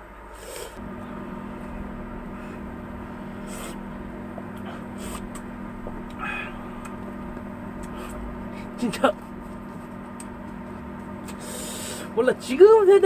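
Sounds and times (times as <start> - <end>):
induction cooktop humming: 0.0 - 13.0.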